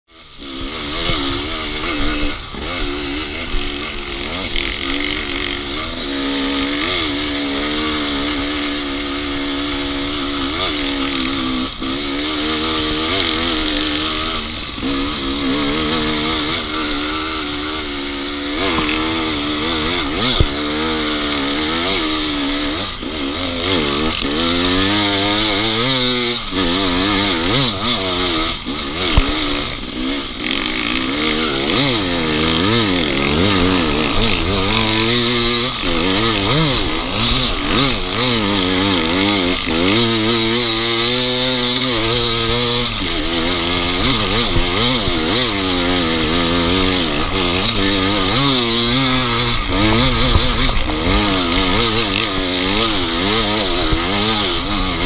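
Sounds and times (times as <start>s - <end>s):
dirt bike engine revving: 0.1s - 55.0s.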